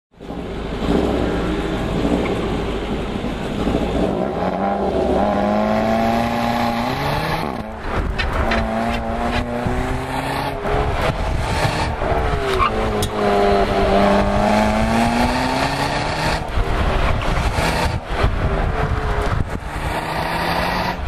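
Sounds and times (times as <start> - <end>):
car engine accelerating hard: 0.2 - 21.0.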